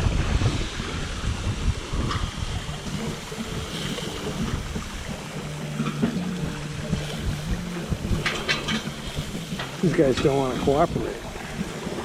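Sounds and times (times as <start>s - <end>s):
water washing along hull: 0.0s - 12.0s
wind buffeting microphone: 0.0s - 12.0s.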